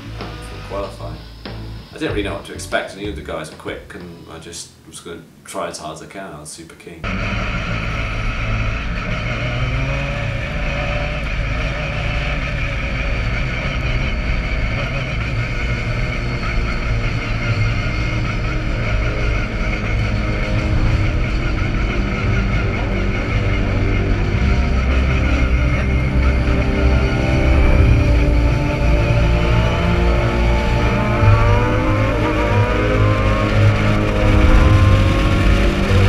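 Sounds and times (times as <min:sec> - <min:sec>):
race car engine at high revs: 0:00.0 - 0:01.9, 0:07.0 - 0:36.0.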